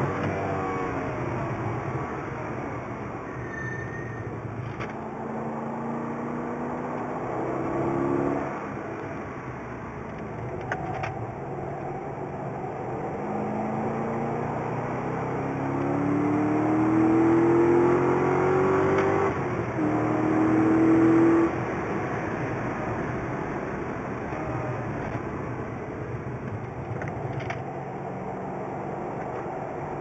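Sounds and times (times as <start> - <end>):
car engine accelerating hard: 0.0 - 3.3, 4.4 - 30.0.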